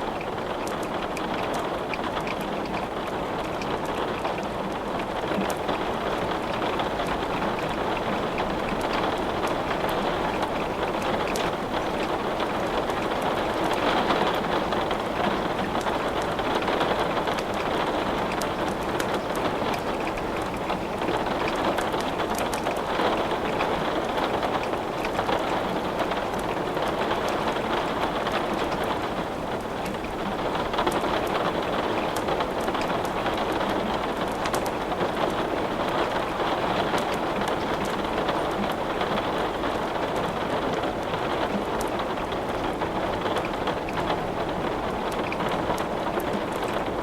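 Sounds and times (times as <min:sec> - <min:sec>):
steady rain: 0:00.0 - 0:47.0
wood crackling in fireplace: 0:00.1 - 0:47.0.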